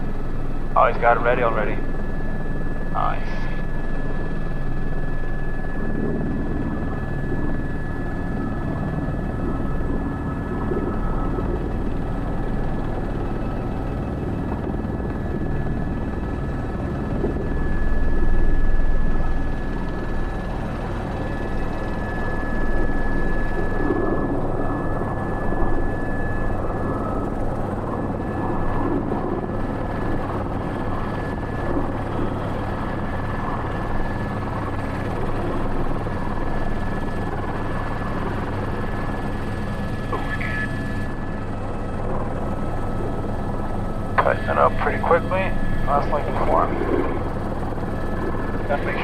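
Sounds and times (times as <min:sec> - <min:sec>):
helicopter engine and rotor: 0:00.0 - 0:49.0.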